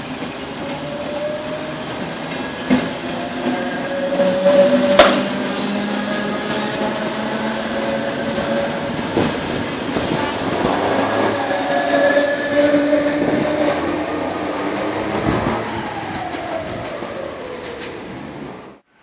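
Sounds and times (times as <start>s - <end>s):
wheels clicking over rail joints: 0.0s - 18.4s
electric train whine: 0.0s - 18.9s.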